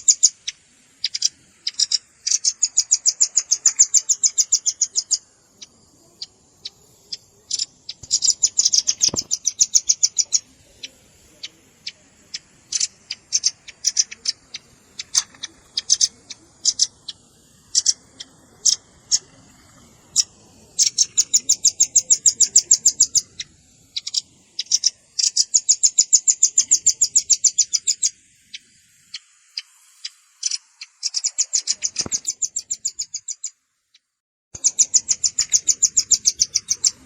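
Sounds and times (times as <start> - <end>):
bird trilling calls: 0.0 - 37.0.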